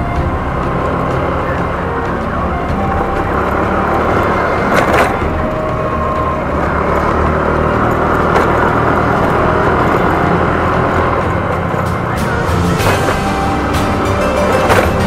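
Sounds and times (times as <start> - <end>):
road noise: 0.0 - 15.0
scooter engine running: 0.0 - 15.0.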